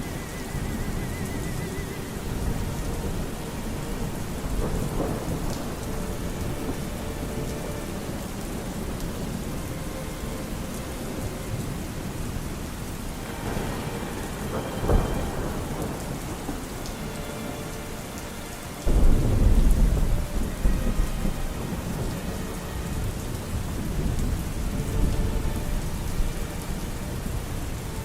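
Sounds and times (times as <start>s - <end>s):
low thunder rumble: 0.0s - 27.8s
steady rain: 0.0s - 28.0s
thunderclap: 0.6s - 11.6s, 13.2s - 27.5s.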